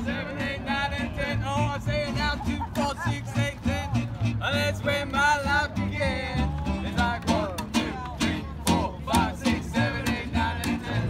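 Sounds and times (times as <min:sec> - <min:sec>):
acoustic guitar: 0:00.0 - 0:11.0
upright bass: 0:00.0 - 0:11.0.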